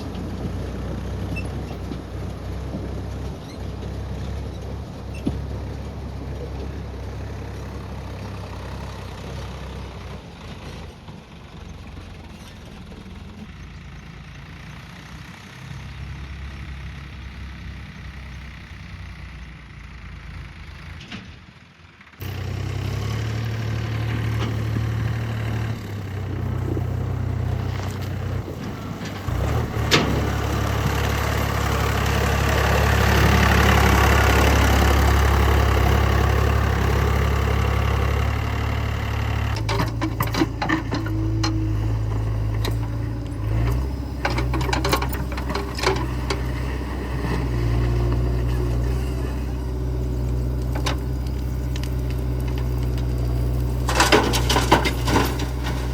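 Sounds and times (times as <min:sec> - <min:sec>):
diesel engine rumbling: 0:00.0 - 0:55.9.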